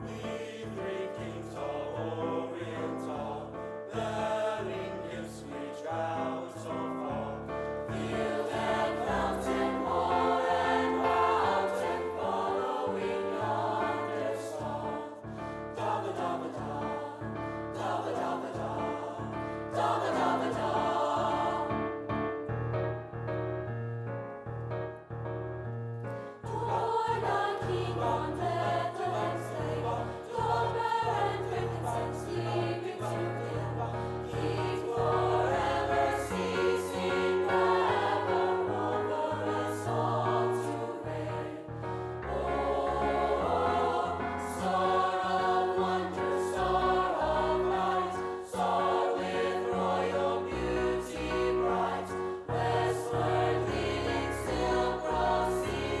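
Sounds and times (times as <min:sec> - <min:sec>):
choir singing: 0:00.0 - 0:22.4, 0:26.2 - 0:56.0.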